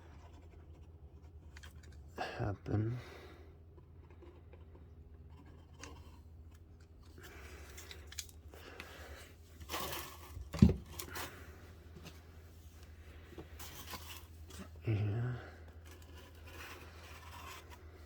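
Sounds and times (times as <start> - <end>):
soft scraping and handling: 0.0 - 18.0.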